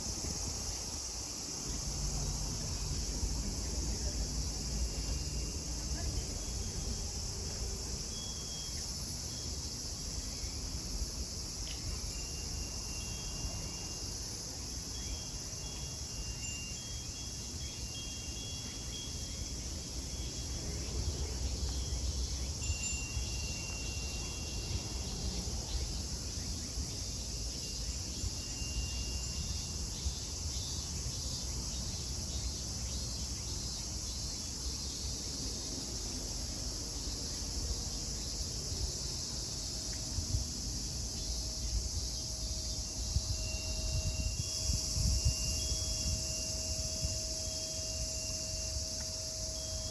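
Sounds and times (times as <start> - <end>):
cicadas droning: 0.0 - 49.9.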